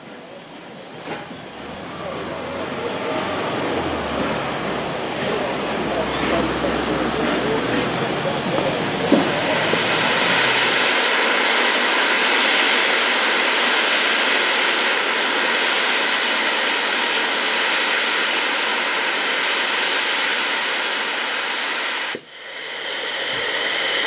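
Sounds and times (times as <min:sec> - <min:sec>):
steam locomotive hissing steam: 0:00.0 - 0:24.0.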